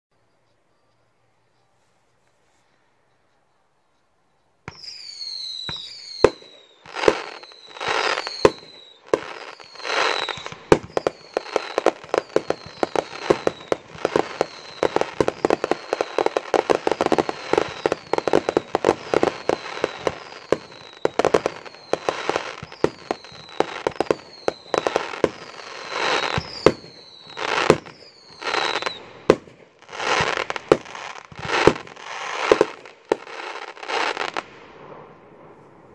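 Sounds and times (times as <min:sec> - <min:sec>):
firework whistles falling in pitch: 0:04.7 - 0:34.4
firework bangs: 0:04.7 - 0:35.9
firework crackling: 0:04.7 - 0:35.9.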